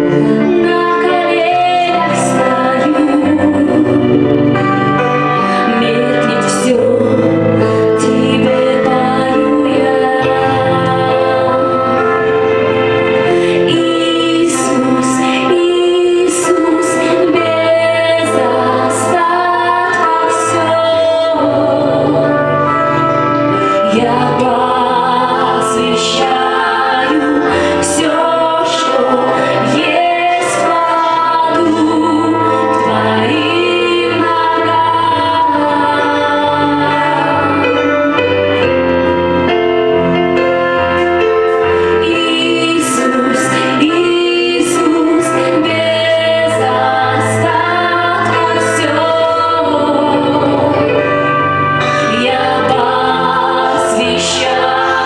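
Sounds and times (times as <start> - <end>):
woman singing: 0.0 - 39.2, 41.6 - 55.0
choir singing: 0.0 - 55.0
musical accompaniment: 0.0 - 55.0.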